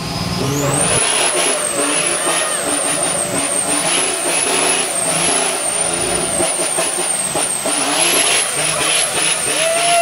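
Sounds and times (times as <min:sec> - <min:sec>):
truck engine running hard: 0:00.0 - 0:10.0.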